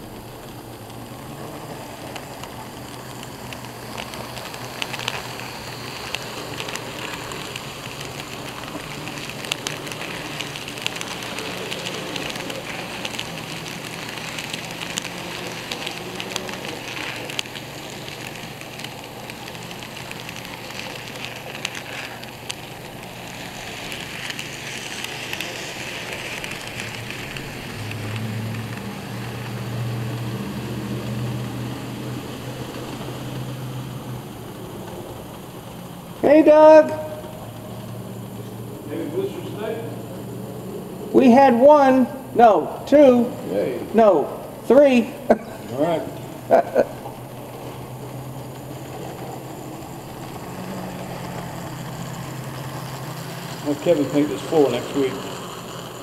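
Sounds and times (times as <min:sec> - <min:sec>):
model train rattling whir: 0:00.0 - 0:56.0.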